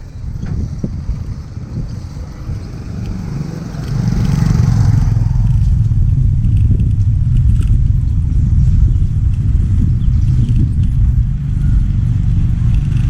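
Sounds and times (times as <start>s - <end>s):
heavy road vehicle rumble: 0.0s - 13.0s
faint clatter: 0.3s - 13.0s.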